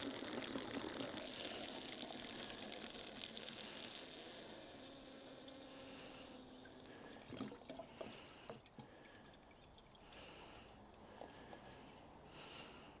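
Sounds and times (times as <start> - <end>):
fuel trickling into tank: 0.0 - 13.0.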